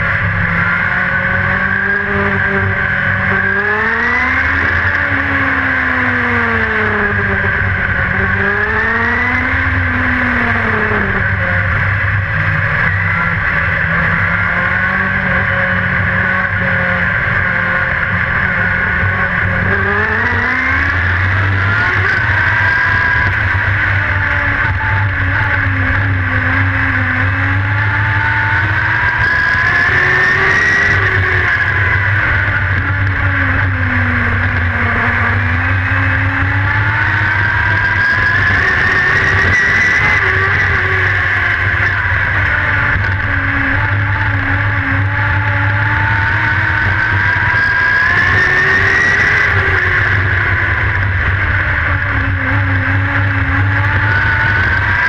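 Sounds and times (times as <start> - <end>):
race car engine from cockpit: 0.0 - 55.0.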